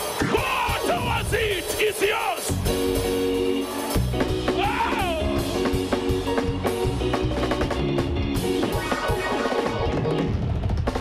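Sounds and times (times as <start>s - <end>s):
band music: 0.0s - 11.0s
drum kit beat: 0.0s - 11.0s.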